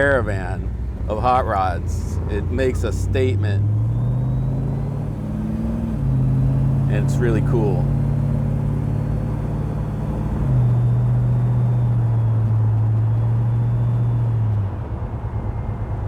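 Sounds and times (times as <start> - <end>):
car engine droning: 0.0 - 16.0
road rumble: 0.0 - 16.0.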